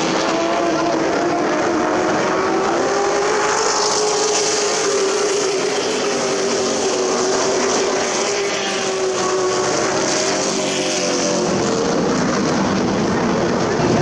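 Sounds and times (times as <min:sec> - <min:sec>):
racing truck engines: 0:00.0 - 0:14.0.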